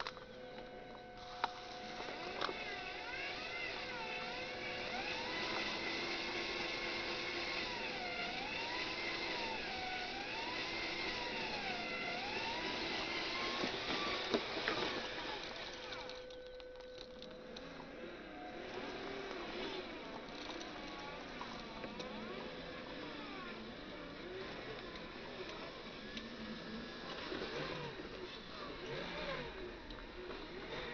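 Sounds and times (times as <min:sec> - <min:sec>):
electric motors whining: 0:00.0 - 0:30.9.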